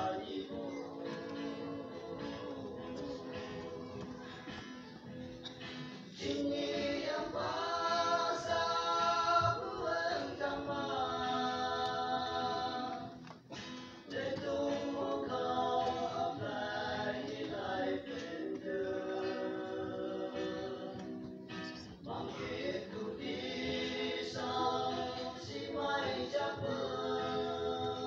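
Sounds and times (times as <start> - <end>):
choir singing: 0.0 - 13.3, 14.0 - 28.0.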